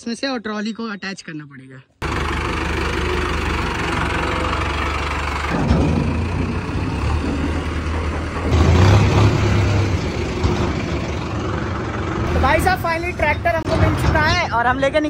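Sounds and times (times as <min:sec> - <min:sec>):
tractor diesel engine running: 0:02.0 - 0:15.0.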